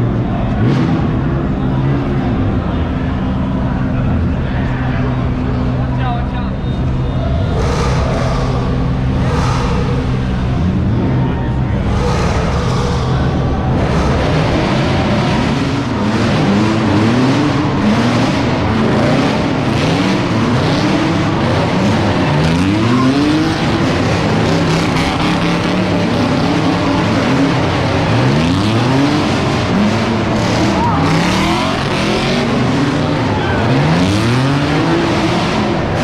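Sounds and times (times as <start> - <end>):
car engine revving hard: 0.0 - 36.0
engine and exhaust noise: 0.0 - 36.0.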